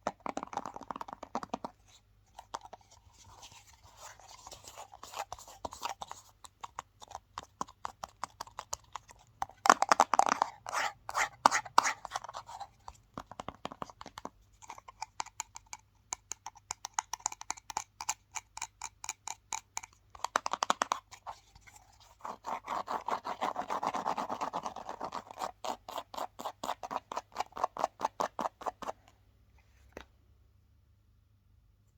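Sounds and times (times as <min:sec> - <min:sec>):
scratching and tapping on hard surface: 0:00.0 - 0:29.2.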